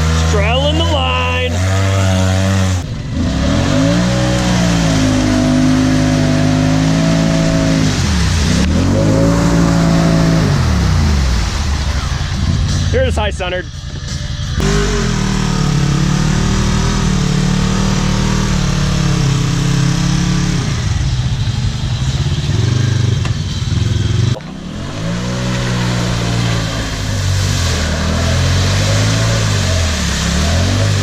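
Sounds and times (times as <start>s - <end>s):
atv engine revving hard: 0.0s - 12.7s, 14.6s - 31.0s.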